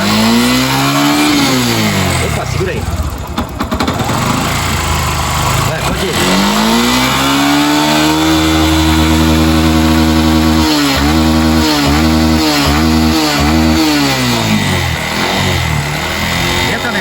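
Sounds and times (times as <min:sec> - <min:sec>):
small motorcycle engine revving: 0:00.0 - 0:17.0.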